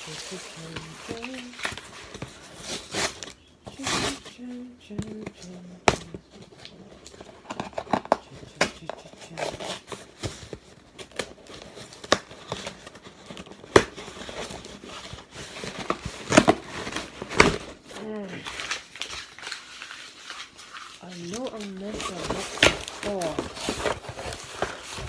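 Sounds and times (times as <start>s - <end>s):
wrapping crinkling: 0.0s - 25.0s.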